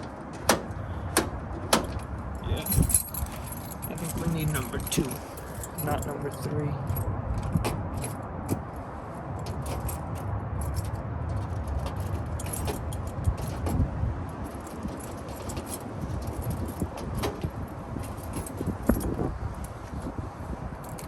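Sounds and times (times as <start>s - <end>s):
steady low rumble: 0.0s - 21.0s
keys jingling: 1.5s - 8.7s, 9.4s - 19.8s, 20.8s - 21.0s.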